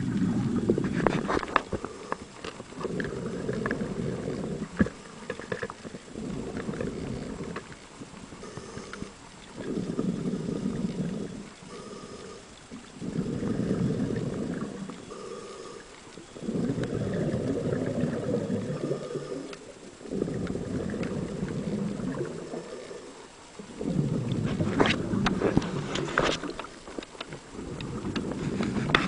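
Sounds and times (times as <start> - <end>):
bubbling exhalations underwater: 0.0 - 2.0, 2.7 - 26.8, 27.4 - 29.0
diver breathing through regulator: 0.0 - 7.7, 8.4 - 26.6.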